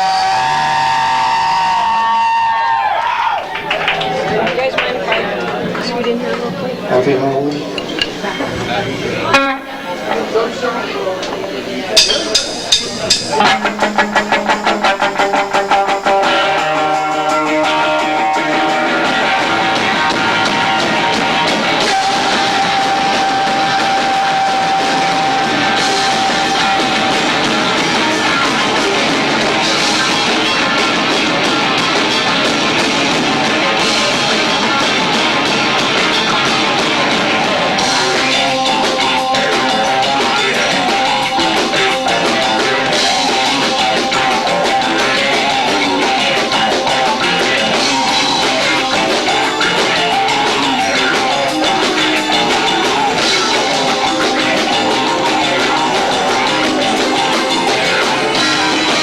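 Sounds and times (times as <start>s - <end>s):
loud heavy rock band: 0.0s - 59.0s.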